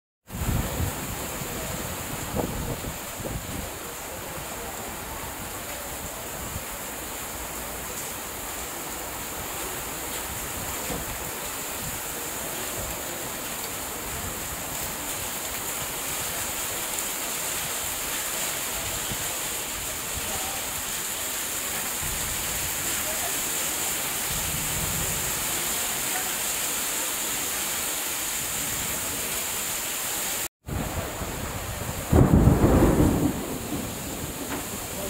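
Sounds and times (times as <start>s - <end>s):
heavy rain hissing on ground: 0.2s - 35.0s
water pouring off roof: 0.3s - 35.0s.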